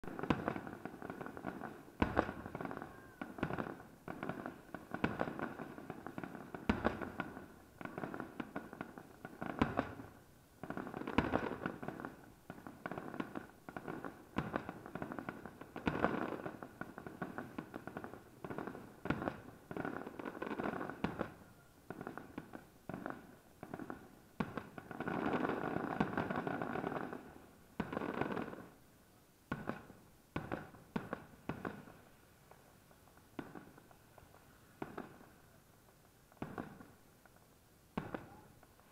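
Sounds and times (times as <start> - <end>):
fireworks bangs and booms: 0.0 - 28.8, 29.5 - 38.9
fireworks crackling: 0.0 - 38.9.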